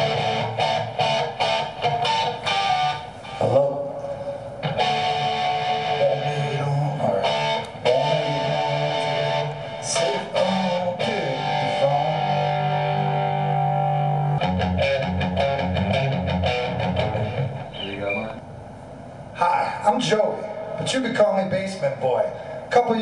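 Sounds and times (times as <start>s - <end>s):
electric guitar strumming chords: 0.0s - 18.4s.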